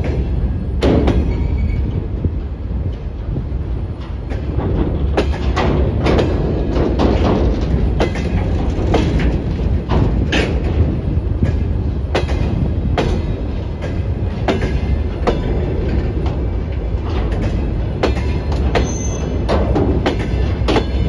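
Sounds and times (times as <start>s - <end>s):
train wheels rumbling on rail: 0.0s - 21.0s
wheels clacking over rail joints: 0.0s - 21.0s.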